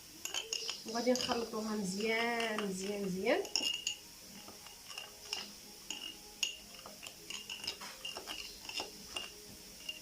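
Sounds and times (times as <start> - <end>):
metal utensil clinking on dish: 0.2 - 10.0.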